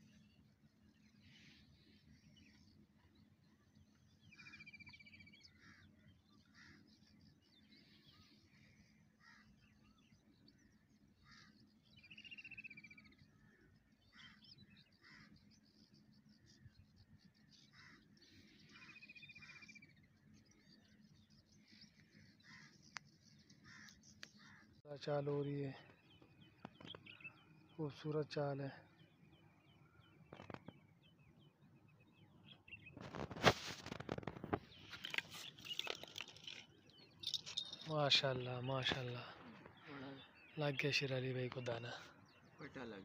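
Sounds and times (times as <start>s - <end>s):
birds calling and chirping: 0.0s - 43.0s.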